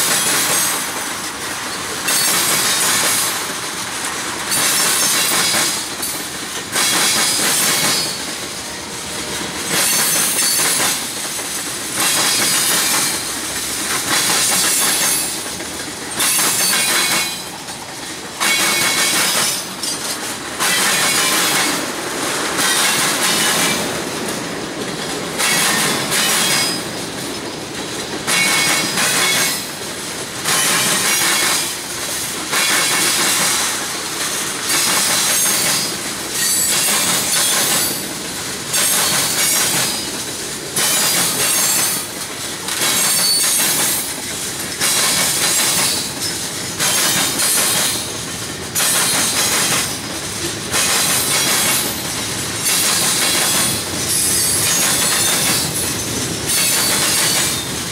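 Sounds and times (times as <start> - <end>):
train wheels clattering over crossing: 0.0 - 57.9.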